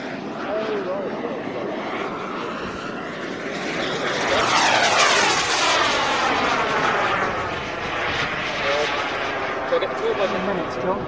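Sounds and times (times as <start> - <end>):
model jet turbine whine: 0.0 - 11.0.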